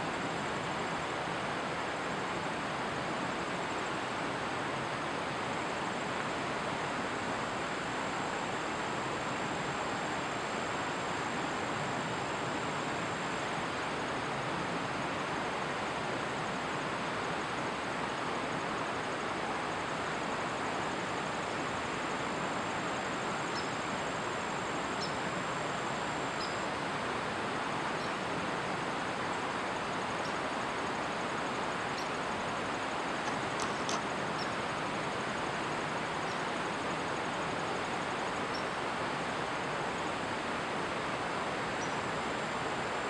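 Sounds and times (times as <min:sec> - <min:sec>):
flowing water: 0:00.0 - 0:43.0.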